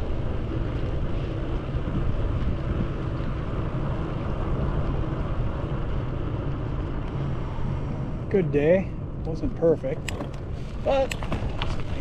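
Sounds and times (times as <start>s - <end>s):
bicycle tyres on wet asphalt: 0.0s - 12.0s
wind rushing over microphone: 0.0s - 12.0s.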